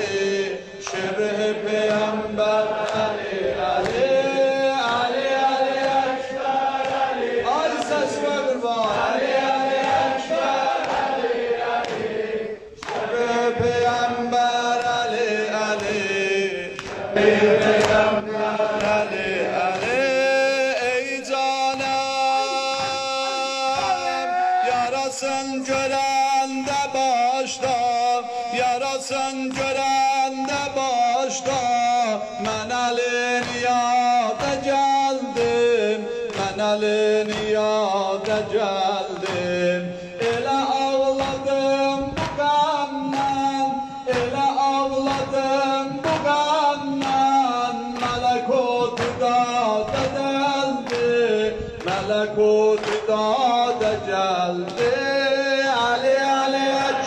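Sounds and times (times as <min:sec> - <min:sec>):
men singing a lament: 0:00.0 - 0:57.0
rhythmic chest-beating slaps: 0:00.0 - 0:57.0.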